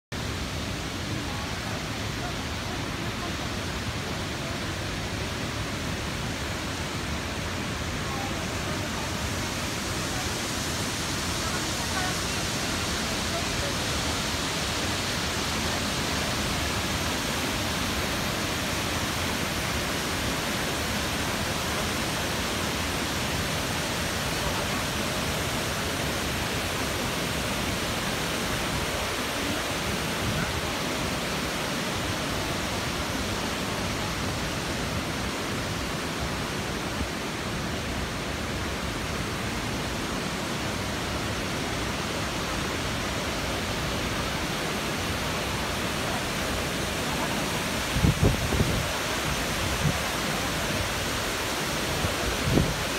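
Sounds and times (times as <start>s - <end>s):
waterfall rushing: 0.1s - 52.9s.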